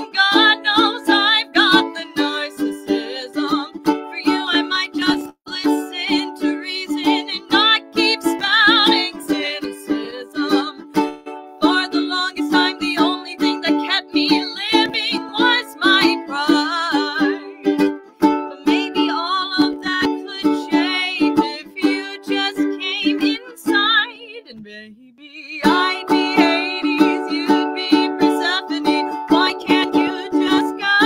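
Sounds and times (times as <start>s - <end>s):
woman singing: 0.0s - 11.0s, 11.6s - 31.0s
ukulele strumming: 0.0s - 24.8s, 25.4s - 31.0s.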